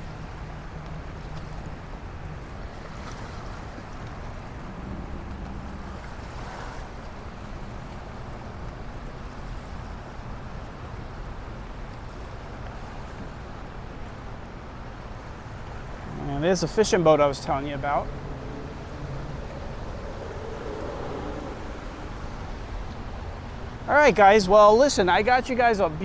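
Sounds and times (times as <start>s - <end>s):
wind rumbling on microphone: 0.0s - 24.5s.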